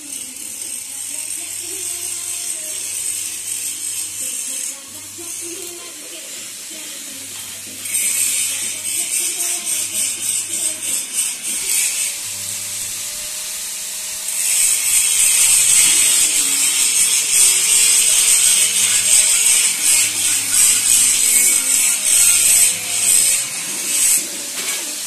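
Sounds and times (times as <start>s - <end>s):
angle grinder cutting steel: 0.0s - 25.0s.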